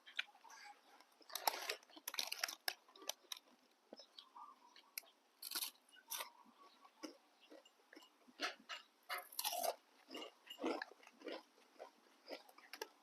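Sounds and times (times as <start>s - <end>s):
person chewing and crunching: 0.0s - 13.0s.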